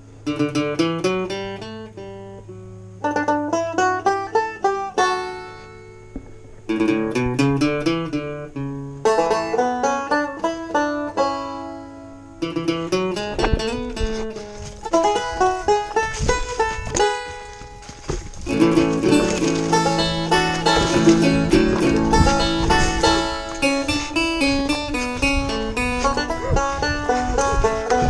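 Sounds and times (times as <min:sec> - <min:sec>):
banjo music: 0:00.0 - 0:28.0.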